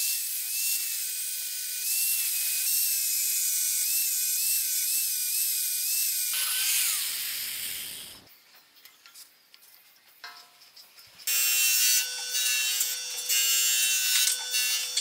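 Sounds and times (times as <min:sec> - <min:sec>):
angle grinder grinding steel: 0:00.0 - 0:08.3, 0:11.2 - 0:15.0.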